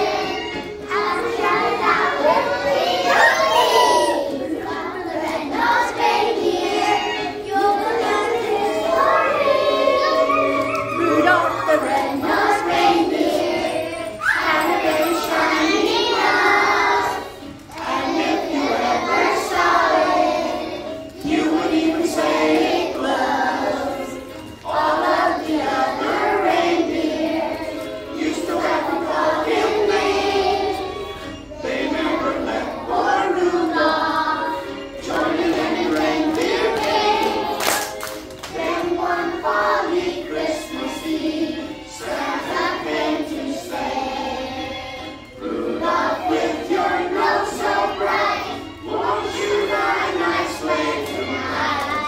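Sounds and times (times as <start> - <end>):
children singing together: 0.0 - 52.0.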